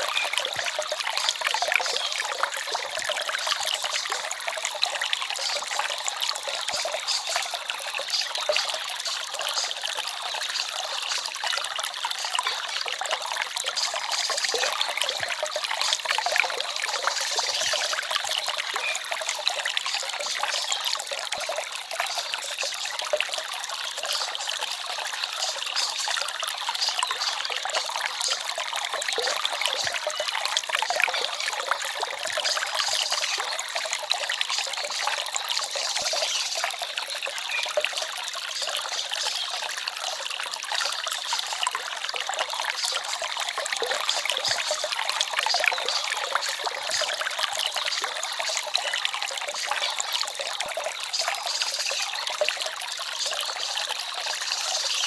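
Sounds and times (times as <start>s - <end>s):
forest stream babbling: 0.0s - 55.0s.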